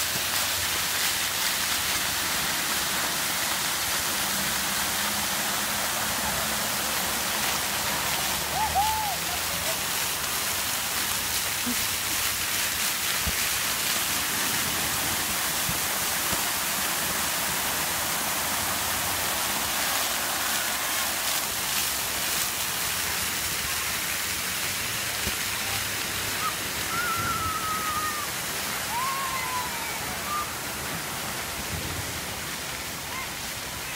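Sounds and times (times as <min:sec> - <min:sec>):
fountain jets spraying water: 0:00.0 - 0:33.9.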